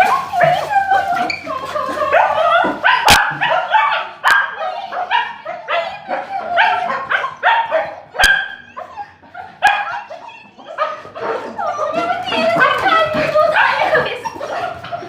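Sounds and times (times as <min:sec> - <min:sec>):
dogs yipping and barking: 0:00.0 - 0:15.0.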